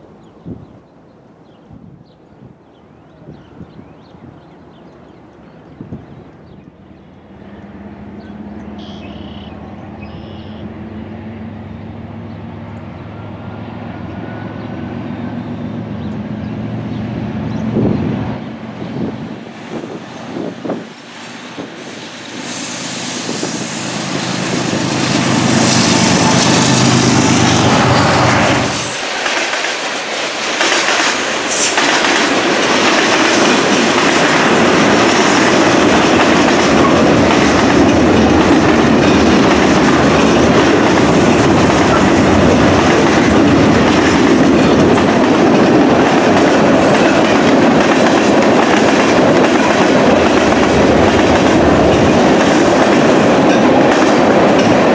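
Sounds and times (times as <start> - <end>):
diesel locomotive engines: 0.0 - 54.9.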